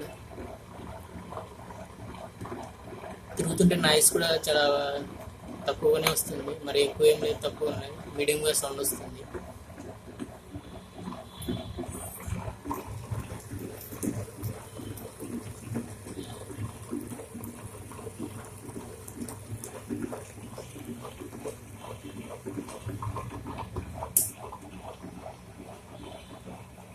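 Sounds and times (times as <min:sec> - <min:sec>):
wet grinder churning: 0:00.0 - 0:26.9.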